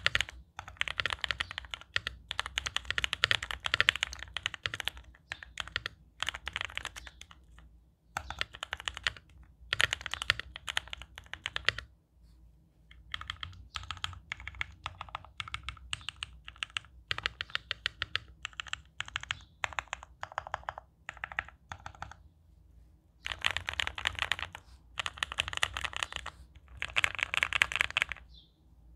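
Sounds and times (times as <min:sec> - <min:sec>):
typing on mechanical keyboard: 0:00.0 - 0:11.9, 0:12.9 - 0:22.2, 0:23.2 - 0:28.3.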